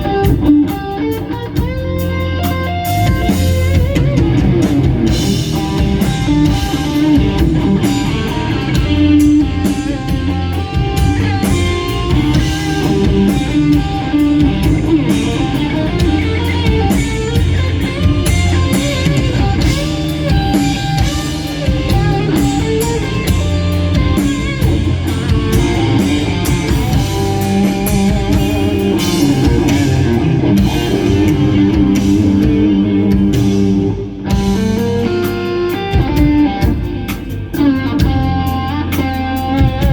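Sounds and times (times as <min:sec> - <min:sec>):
drum kit: 0:00.0 - 0:39.9
electric guitar melody: 0:00.0 - 0:39.9.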